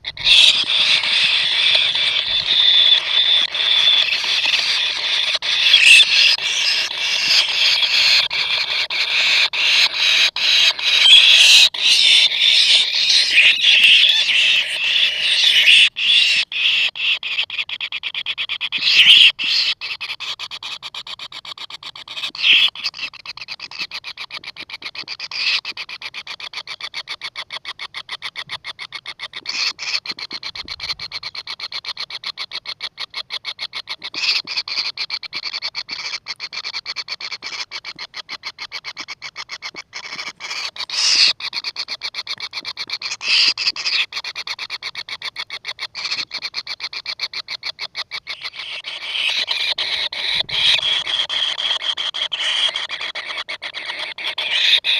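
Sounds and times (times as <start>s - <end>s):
nestlings squealing: 0.0s - 24.4s, 27.6s - 54.9s.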